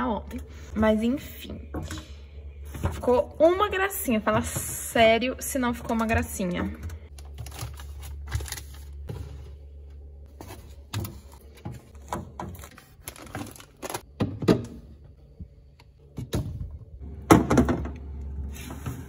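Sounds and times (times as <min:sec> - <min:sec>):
refrigerator hum: 0:00.0 - 0:19.0.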